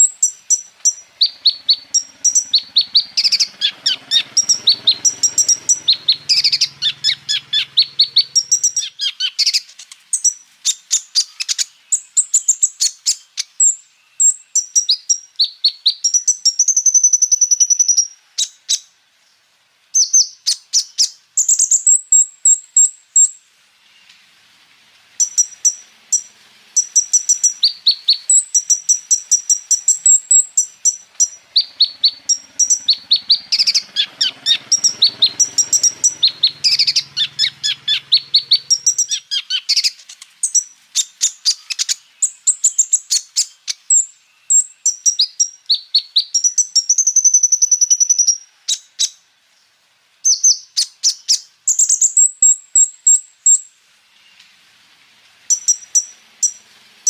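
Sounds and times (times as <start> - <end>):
sunbird singing rapid chirps: 0.0 - 57.0.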